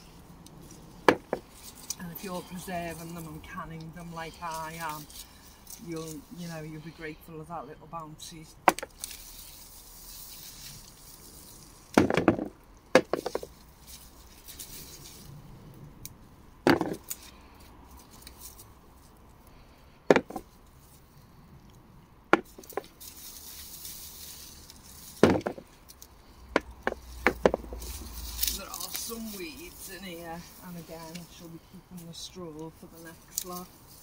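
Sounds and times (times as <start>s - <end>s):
plant stems snapping and rustling: 0.1s - 6.4s, 8.6s - 19.4s, 22.4s - 34.0s.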